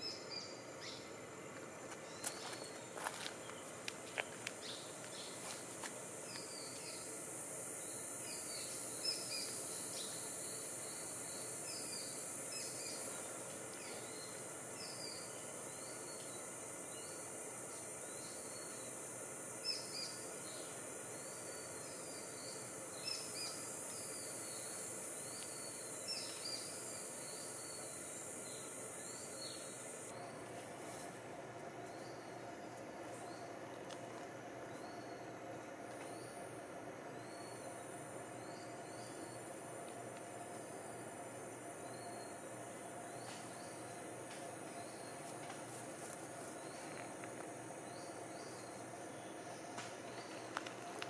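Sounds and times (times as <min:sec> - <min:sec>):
high insect drone: 0:00.0 - 0:51.0.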